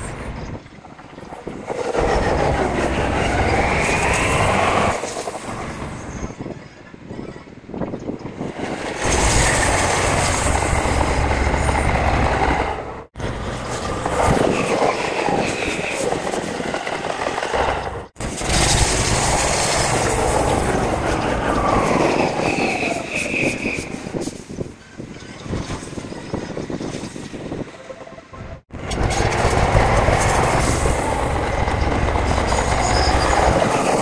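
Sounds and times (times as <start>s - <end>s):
falling train whines: 0.0s - 6.4s, 8.3s - 24.6s, 26.2s - 34.0s
train rail rumble: 0.0s - 34.0s.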